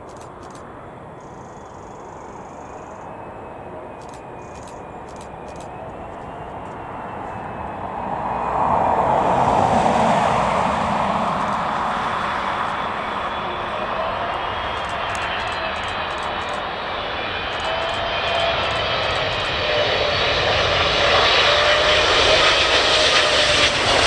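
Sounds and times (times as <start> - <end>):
faint engine whine: 0.0 - 24.0
jet airliner passing: 0.0 - 24.0.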